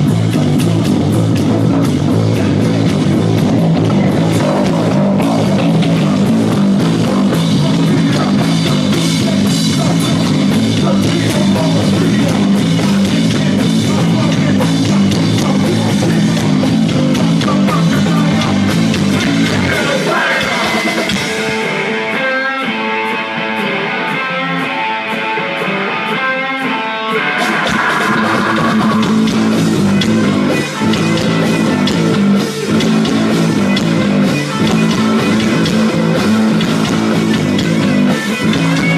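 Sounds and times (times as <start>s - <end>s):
repeating electric guitar figure: 0.0s - 38.9s
rock band playing live: 0.0s - 38.9s.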